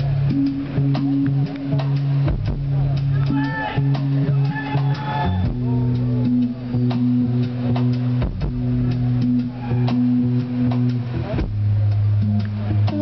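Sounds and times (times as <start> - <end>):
held bass notes: 0.0 - 13.0
rock band playing slow song live: 0.0 - 13.0
sustained guitar tones: 0.0 - 13.0.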